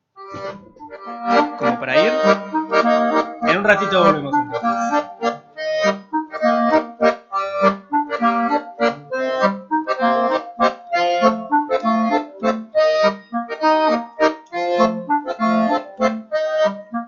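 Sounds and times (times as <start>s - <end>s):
accordion playing detached chords: 0.0s - 17.0s.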